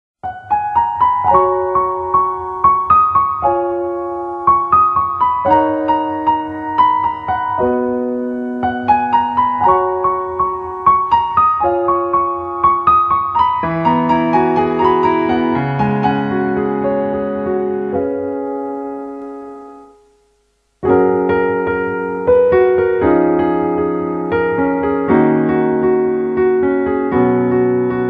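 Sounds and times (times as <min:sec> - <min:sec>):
piano melody: 0:00.2 - 0:28.0.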